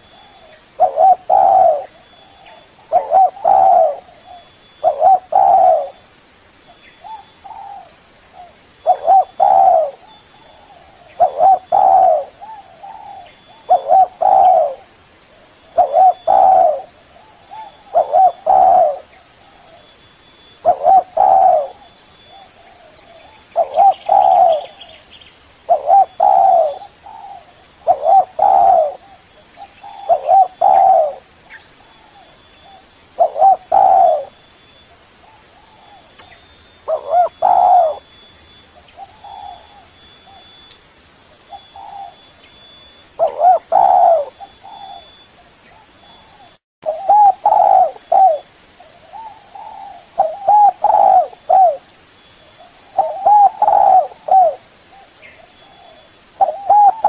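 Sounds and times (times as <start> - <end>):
dove cooing: 0.0 - 6.0, 7.0 - 19.9, 20.6 - 25.0, 25.6 - 31.3, 31.9 - 34.4, 35.2 - 40.6, 41.4 - 51.9, 52.6 - 57.0.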